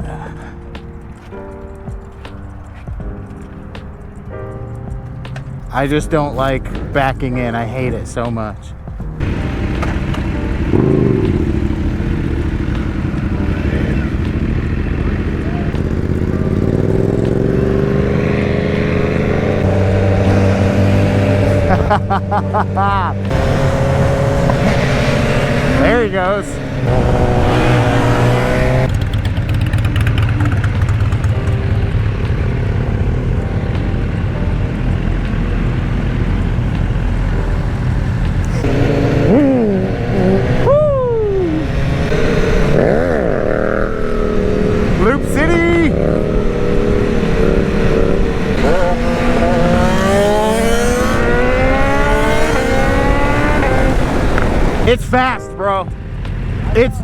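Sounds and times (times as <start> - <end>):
motorcycle engine running: 8.9 - 57.0.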